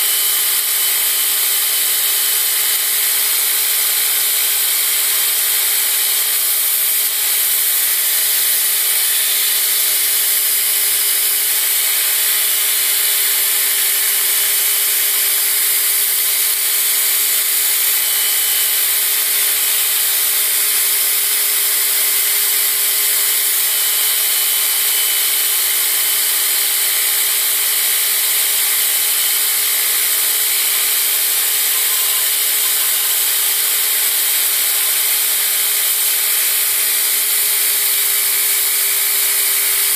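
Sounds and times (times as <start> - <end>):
belt grinder grinding steel: 0.0 - 39.9.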